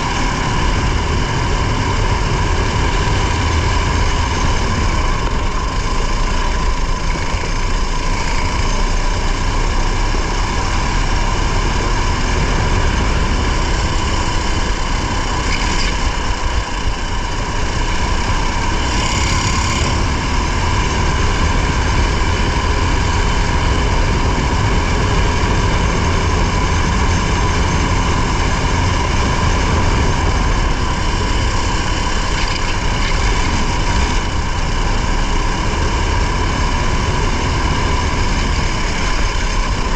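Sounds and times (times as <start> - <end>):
race engine running hard: 0.0 - 39.9
road and wind rumble: 0.0 - 39.9.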